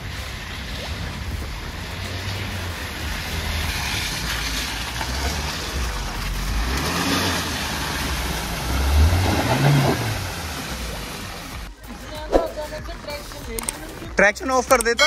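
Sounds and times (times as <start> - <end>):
water rushing: 0.0 - 12.8
suv engine labouring: 0.0 - 15.0.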